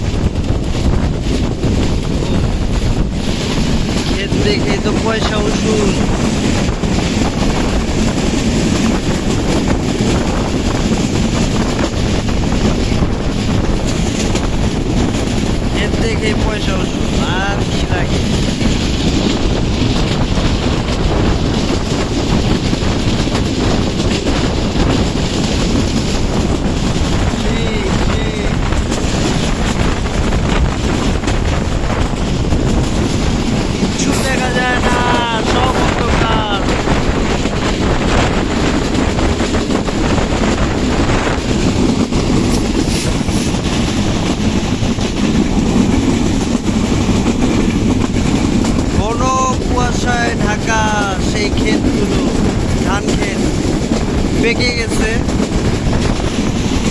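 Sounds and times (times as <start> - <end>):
moving train rumble: 0.0 - 56.9
wind on microphone: 0.0 - 56.9.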